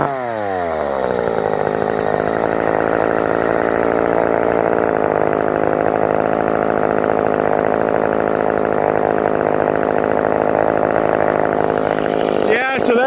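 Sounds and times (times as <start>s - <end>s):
chainsaw cutting dry wood: 0.0s - 13.0s.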